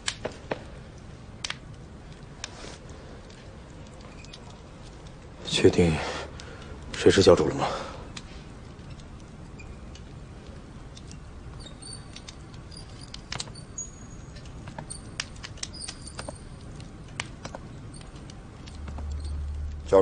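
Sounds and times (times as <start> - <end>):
faint clicks and ticks: 0.0 - 5.4, 6.3 - 20.0.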